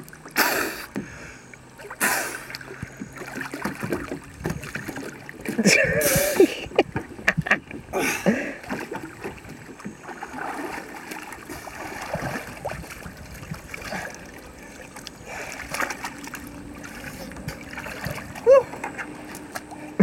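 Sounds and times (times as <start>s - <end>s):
water sloshing and trickling: 0.0s - 20.0s.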